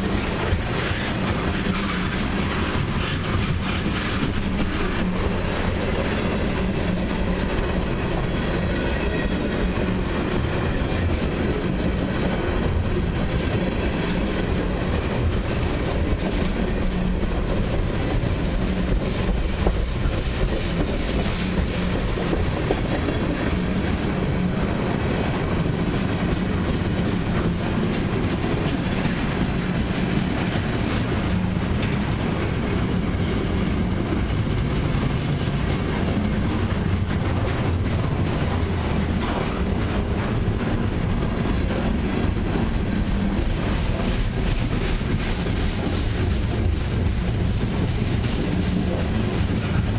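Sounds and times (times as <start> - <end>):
freight train rolling past: 0.0 - 49.9
wheels clicking over rail joints: 0.0 - 49.9.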